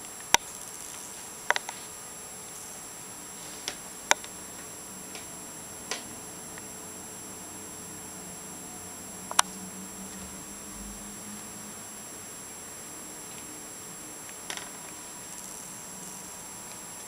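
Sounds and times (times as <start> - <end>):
faint high whine: 0.0 - 17.0
room hiss: 0.0 - 17.0.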